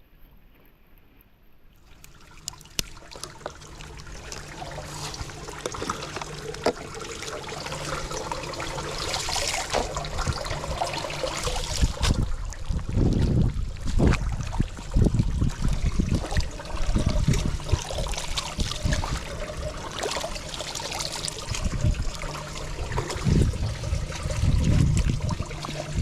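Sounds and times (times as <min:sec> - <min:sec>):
water gurgling down drain: 0:01.8 - 0:26.0.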